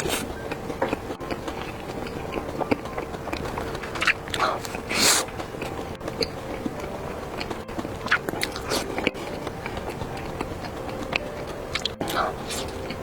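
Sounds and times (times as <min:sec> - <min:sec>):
mouth clicks and smacks: 0:00.0 - 0:13.0
wet chewing: 0:00.0 - 0:13.0.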